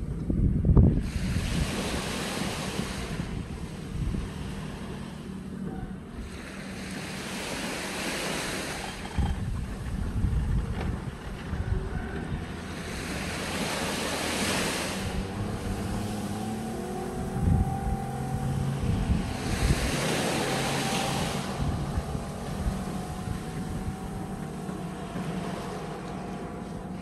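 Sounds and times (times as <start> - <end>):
distant outboard engine drone: 0.0 - 27.0
wind buffeting microphone: 0.0 - 27.0
small waves washing on sand: 0.9 - 27.0.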